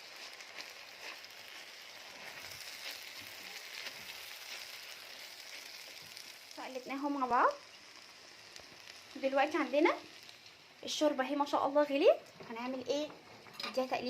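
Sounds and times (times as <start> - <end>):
rice and onion sizzling in oil: 0.0 - 14.0.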